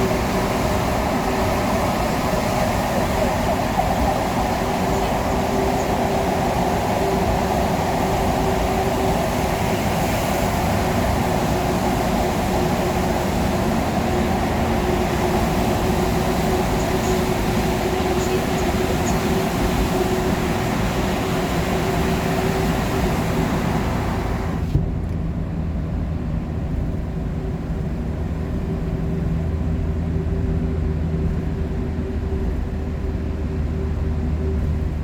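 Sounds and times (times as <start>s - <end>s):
constant low hum: 0.0s - 35.0s
road and engine noise in a car: 0.0s - 35.0s.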